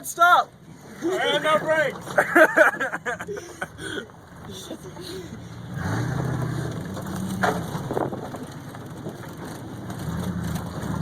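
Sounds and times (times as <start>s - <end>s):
truck engine running: 0.2s - 11.0s.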